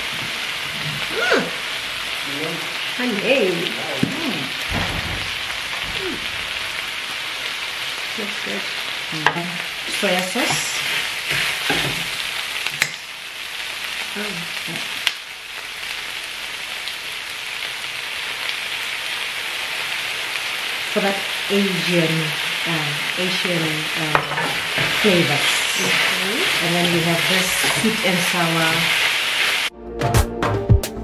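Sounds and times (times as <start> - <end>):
stir-fry sizzling in a pan: 0.0 - 29.7.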